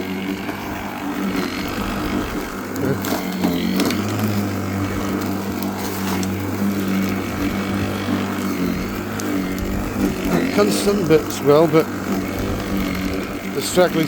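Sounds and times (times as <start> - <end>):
lawnmower running: 0.0 - 14.0.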